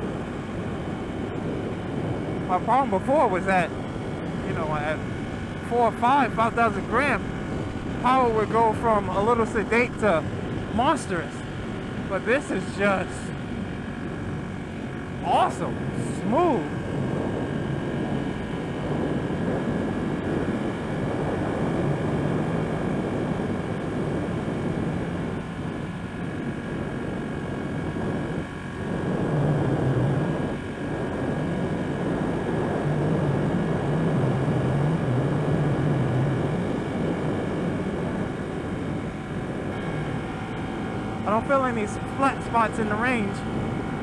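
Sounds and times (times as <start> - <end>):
motorcycle engine running: 0.0 - 44.0
wind rush: 0.0 - 44.0.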